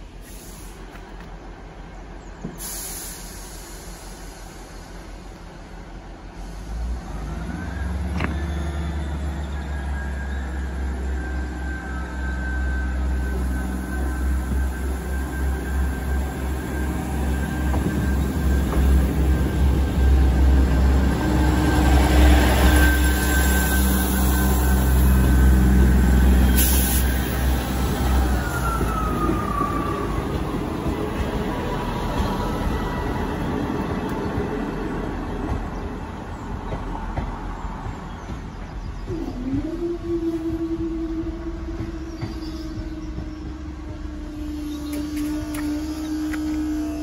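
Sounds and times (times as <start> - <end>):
train diesel engines rumbling: 0.0 - 47.0.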